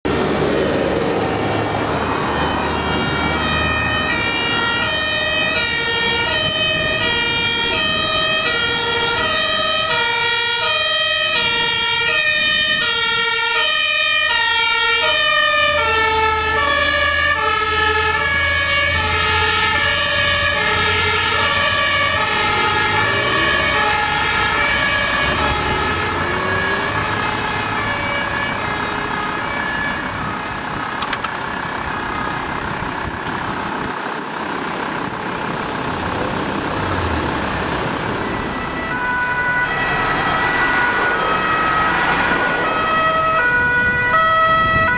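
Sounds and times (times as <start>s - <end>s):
truck diesel engine rumble: 0.0s - 44.9s
two-tone fire engine siren: 0.1s - 44.9s.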